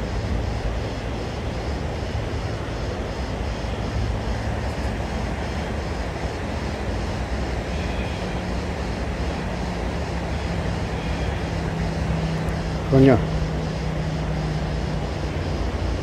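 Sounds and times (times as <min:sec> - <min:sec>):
faint high-pitched pulsing: 0:00.0 - 0:16.0
low outdoor rumble: 0:00.0 - 0:16.0.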